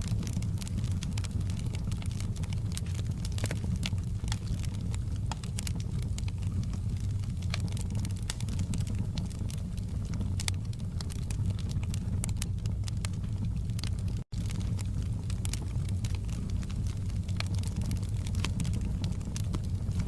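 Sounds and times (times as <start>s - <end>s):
fire popping and snapping: 0.0s - 20.0s
flames rumbling: 0.0s - 20.0s
wood fire crackling: 0.0s - 20.0s.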